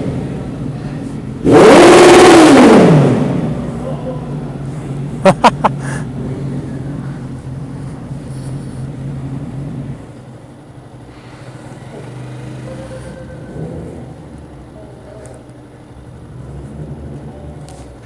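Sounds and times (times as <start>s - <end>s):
motorcycle engines idling: 0.0s - 1.8s, 2.4s - 18.0s.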